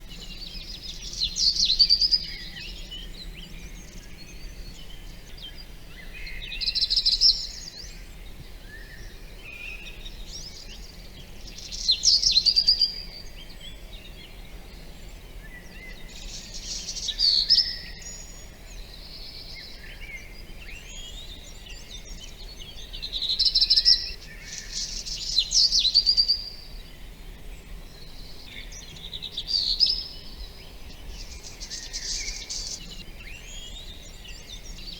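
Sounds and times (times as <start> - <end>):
songbird singing: 0.0 - 34.9
steady background hiss: 0.0 - 34.9.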